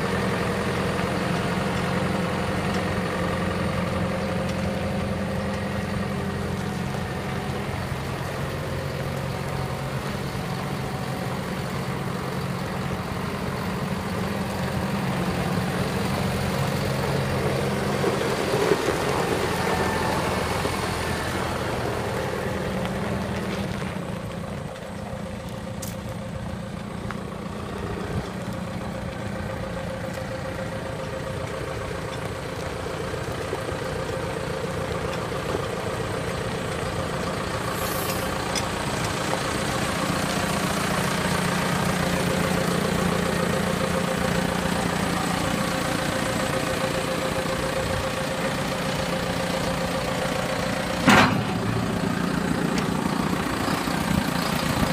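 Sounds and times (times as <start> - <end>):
diesel tractor engine idling: 0.0 - 54.9.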